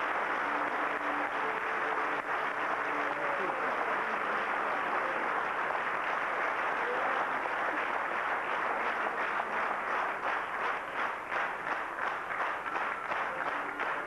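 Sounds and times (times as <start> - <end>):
audience applauding: 0.0 - 14.0
rhythmic clapping: 0.0 - 14.0.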